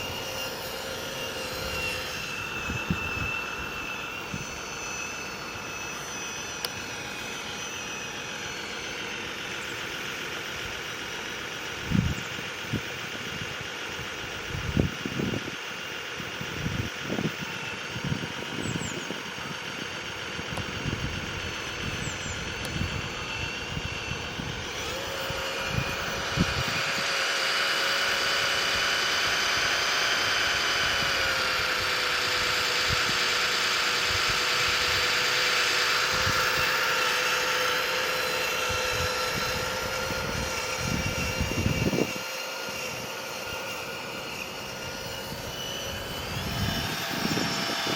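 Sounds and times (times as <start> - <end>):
simulated diesel truck engine: 0.0 - 47.9.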